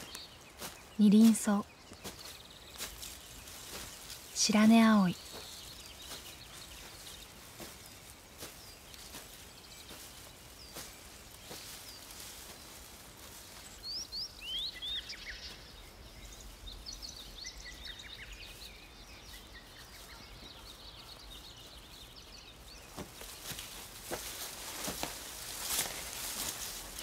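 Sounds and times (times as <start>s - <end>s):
birds whistling and chirping: 0.0s - 27.0s
faint outdoor background: 0.0s - 27.0s.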